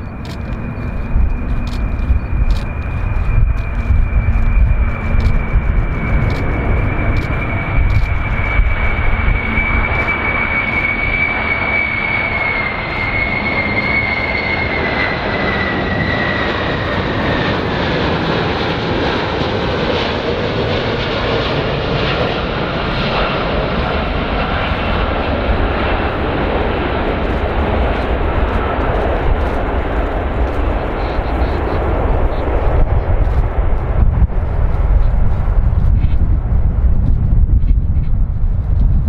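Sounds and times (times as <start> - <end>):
jet engines with high whine: 0.0 - 39.0.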